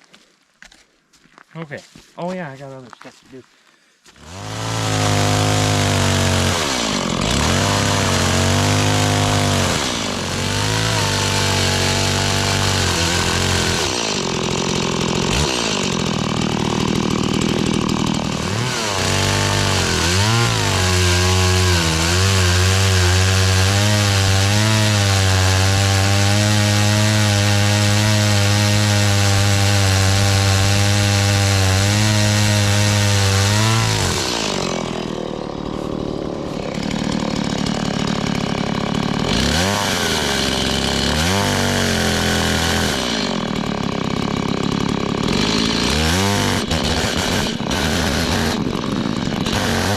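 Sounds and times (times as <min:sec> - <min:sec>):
two-stroke chainsaw running: 0:04.1 - 0:49.9.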